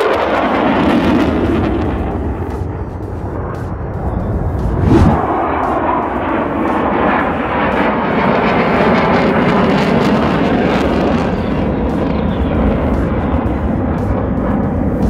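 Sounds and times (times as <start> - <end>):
jet aircraft engine roar: 0.0 - 15.0.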